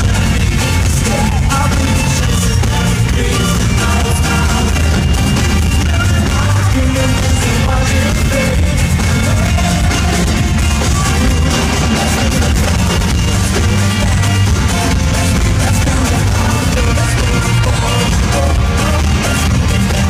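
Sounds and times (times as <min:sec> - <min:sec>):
heavy bass: 0:00.0 - 0:20.0
live pop-rock band with singing: 0:00.0 - 0:20.0.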